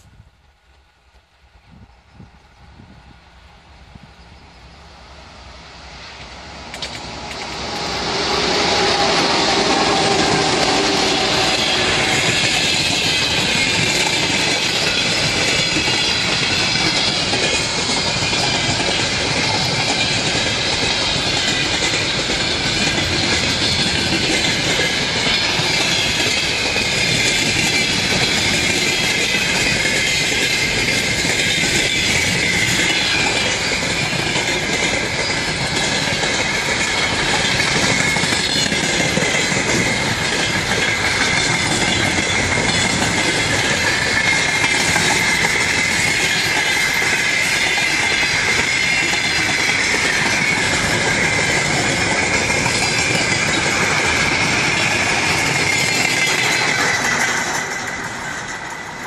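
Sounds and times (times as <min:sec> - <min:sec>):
freight train rumbling past: 0:00.0 - 0:59.0
high wheel squeal: 0:07.5 - 0:59.0
wheels clattering over rail joints: 0:08.9 - 0:59.0.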